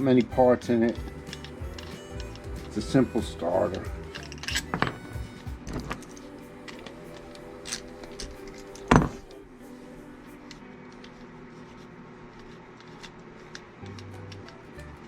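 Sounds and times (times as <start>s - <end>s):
background music: 0.0s - 13.0s, 13.6s - 15.0s.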